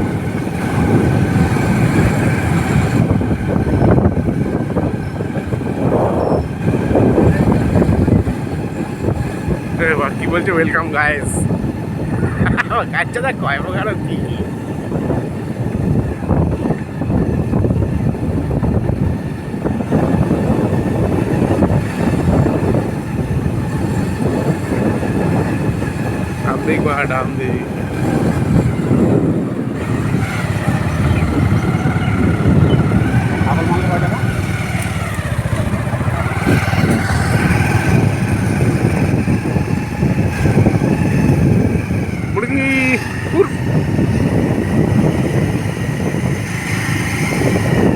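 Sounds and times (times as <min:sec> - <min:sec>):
motorcycle engine running: 0:00.0 - 0:13.2, 0:14.2 - 0:47.9
vehicle road rumble: 0:00.0 - 0:47.9
wind buffeting microphone: 0:00.0 - 0:47.9.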